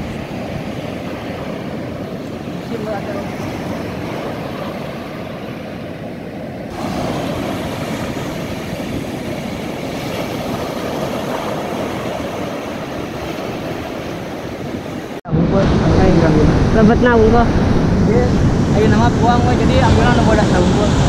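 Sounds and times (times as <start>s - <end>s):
ocean surf roaring: 0.0s - 21.0s
wind: 0.0s - 21.0s.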